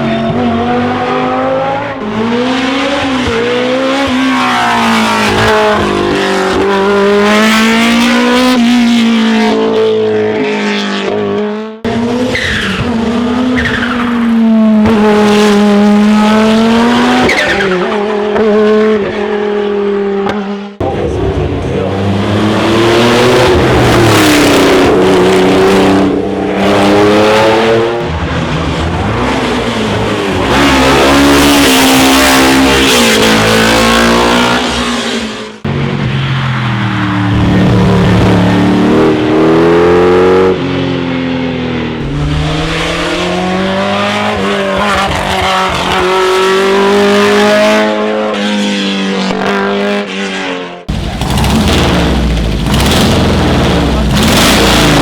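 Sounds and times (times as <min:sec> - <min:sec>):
racing car engines at full throttle: 0:00.0 - 0:55.0.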